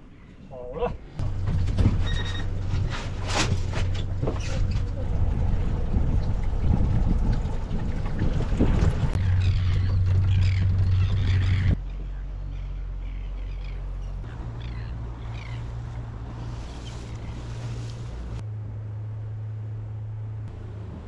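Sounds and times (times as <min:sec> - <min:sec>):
wind: 0:00.0 - 0:21.0
engine running steadily: 0:01.2 - 0:21.0.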